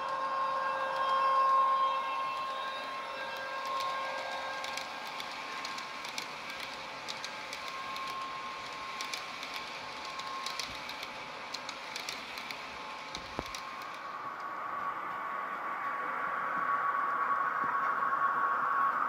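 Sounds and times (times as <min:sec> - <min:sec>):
model train coaches rolling on track: 0:00.0 - 0:15.7.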